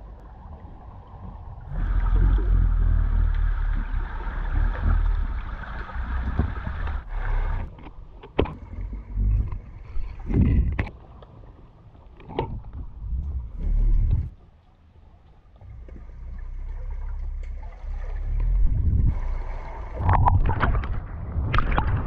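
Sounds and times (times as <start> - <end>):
underwater surging rumble: 0.0 - 22.0.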